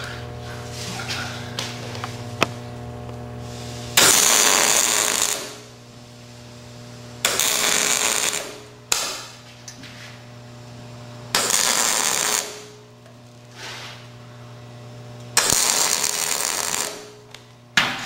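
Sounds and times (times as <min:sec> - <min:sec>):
steady hum: 0:00.0 - 0:18.0
welder crackling arc: 0:01.5 - 0:18.0.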